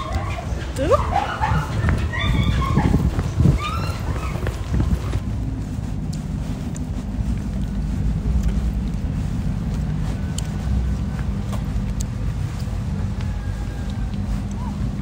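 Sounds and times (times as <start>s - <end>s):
cars rumbling and idling: 0.0s - 15.0s.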